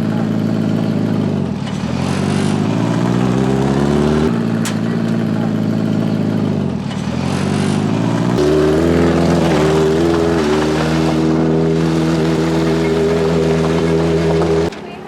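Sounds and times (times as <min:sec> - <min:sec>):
small racing engine running hard: 0:00.0 - 0:15.0.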